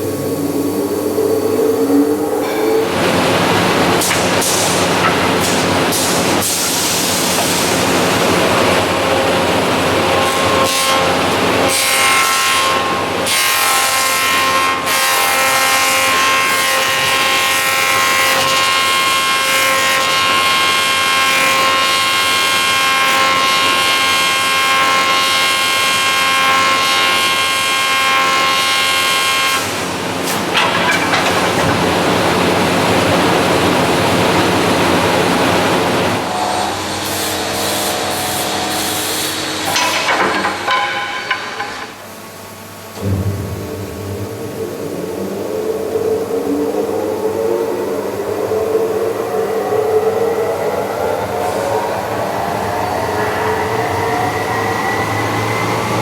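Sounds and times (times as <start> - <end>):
high machine whine: 0.0 - 11.9, 15.8 - 56.0.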